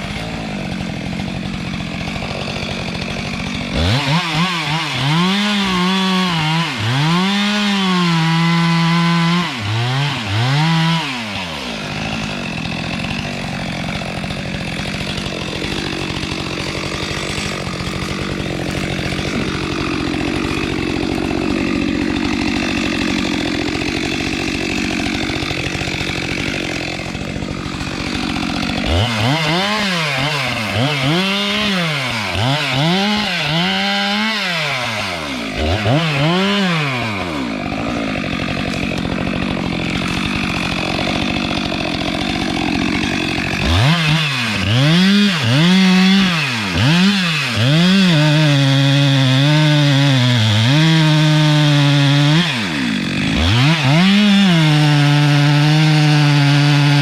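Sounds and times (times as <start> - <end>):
chainsaw cutting through tree: 0.0 - 57.0.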